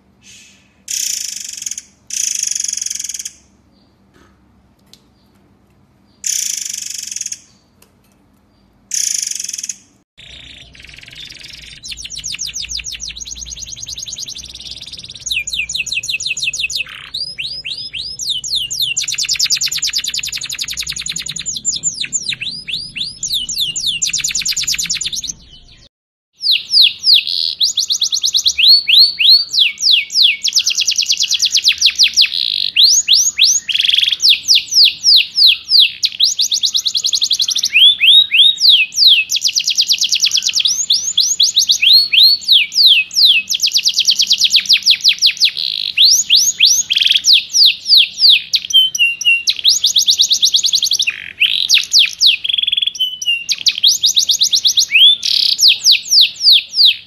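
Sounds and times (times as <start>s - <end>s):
songbird rapid falling whistles: 8.9s - 57.0s.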